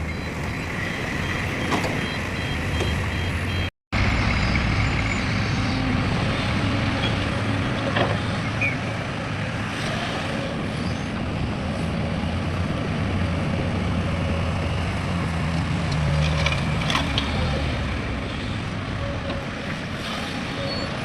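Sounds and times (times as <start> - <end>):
diesel construction machinery running: 0.0 - 21.0.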